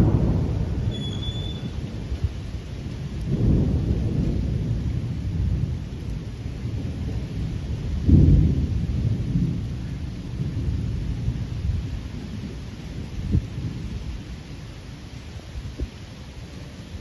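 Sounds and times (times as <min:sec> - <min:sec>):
thunder rumbling: 0:00.0 - 0:14.8.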